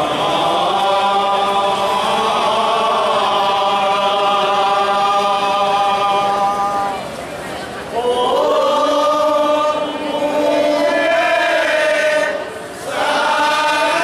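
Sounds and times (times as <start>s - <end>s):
men chanting in unison: 0.0s - 7.0s, 7.9s - 14.0s.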